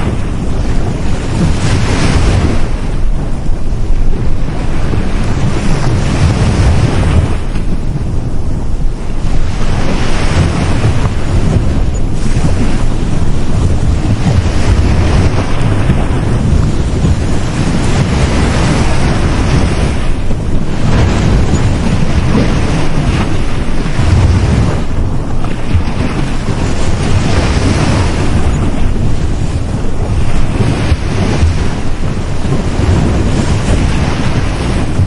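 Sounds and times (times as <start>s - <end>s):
sea waves breaking on beach: 0.0s - 35.0s
wind buffeting microphone: 0.0s - 35.0s.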